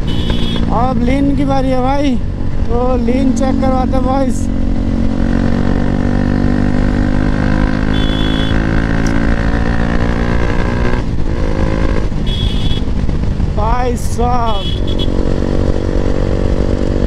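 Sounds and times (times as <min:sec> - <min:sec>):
motorcycle engine with loud exhaust: 0:00.0 - 0:17.0.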